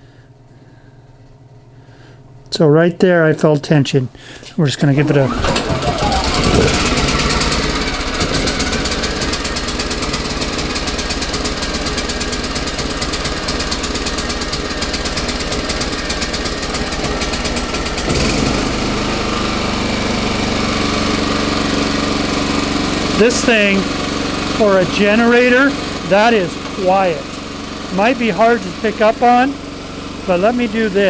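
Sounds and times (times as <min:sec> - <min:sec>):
generator engine running: 0:04.8 - 0:31.0.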